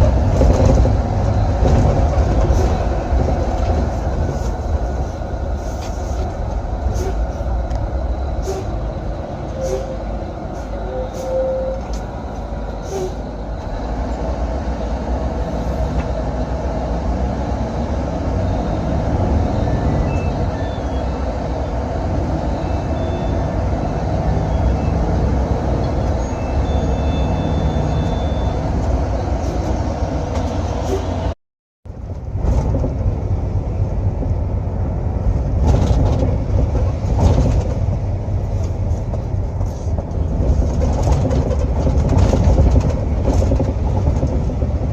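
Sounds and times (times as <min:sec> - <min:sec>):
coach engine and road rumble: 0:00.0 - 0:44.9.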